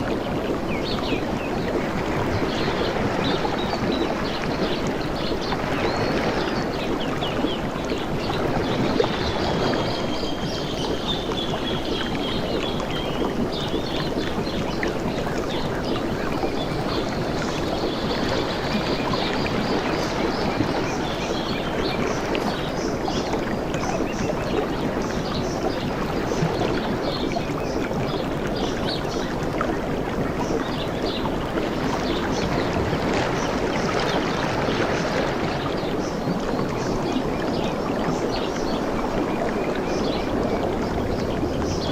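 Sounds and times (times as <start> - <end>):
ocean water lapping: 0.0 - 41.9.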